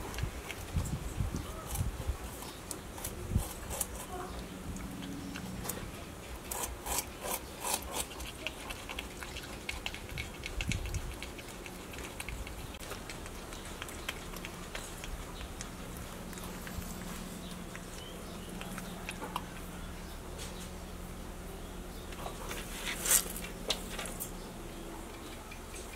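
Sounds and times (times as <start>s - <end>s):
porcupine gnawing crunching: 0.0s - 20.8s, 21.9s - 25.9s.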